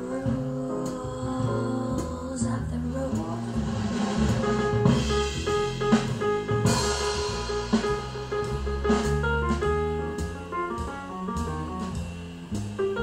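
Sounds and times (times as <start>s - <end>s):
jazz music with guitar and drums: 0.0s - 13.0s.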